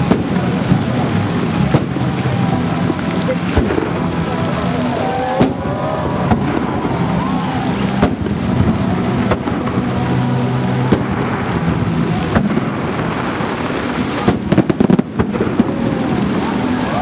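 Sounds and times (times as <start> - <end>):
fireworks crackling: 0.0 - 17.0
fireworks rumbling: 0.0 - 17.0
fireworks sharp bangs: 0.0 - 17.0.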